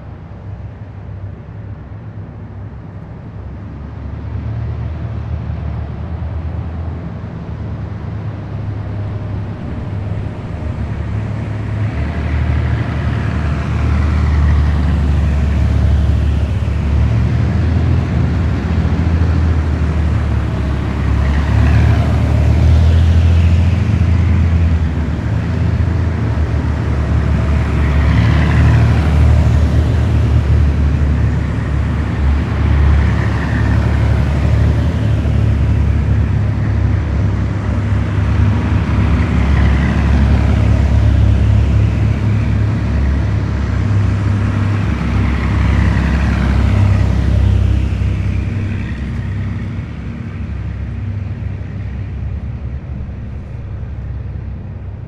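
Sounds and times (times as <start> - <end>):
heavy diesel vehicles rumbling past: 0.0 - 55.0.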